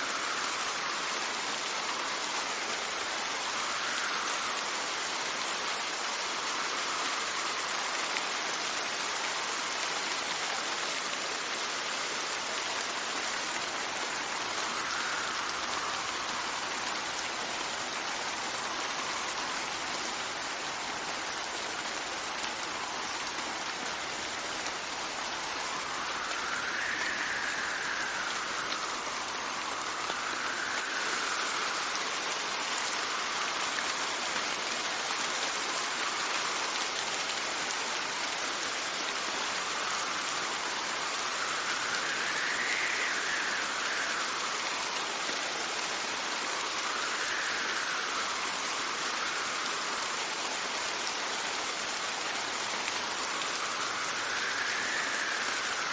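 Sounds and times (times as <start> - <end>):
steady rain: 0.0 - 55.9
wind gusts: 0.0 - 55.9.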